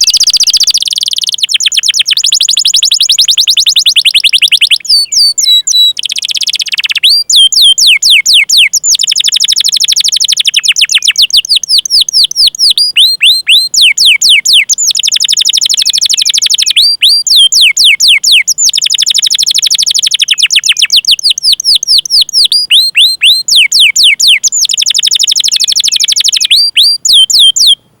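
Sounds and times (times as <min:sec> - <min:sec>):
canary call notes: 0:00.0 - 0:28.0
canary singing trills: 0:00.0 - 0:28.0.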